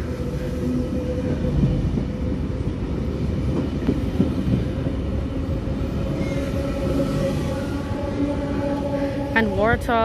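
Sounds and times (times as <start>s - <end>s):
train carriages rumbling past: 0.0s - 10.0s.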